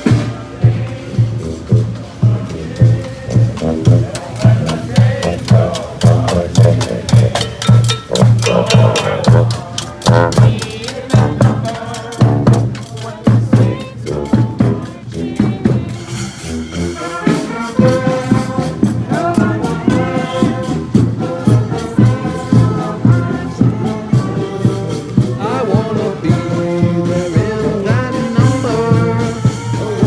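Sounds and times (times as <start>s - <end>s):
brass horns playing: 0.0s - 30.0s
drums beating steady rhythm: 0.0s - 30.0s.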